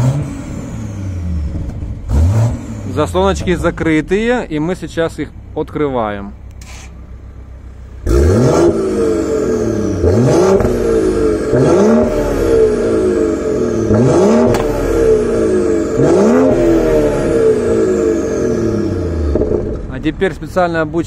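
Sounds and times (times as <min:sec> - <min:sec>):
car engine revving: 0:00.0 - 0:05.6, 0:06.4 - 0:21.0.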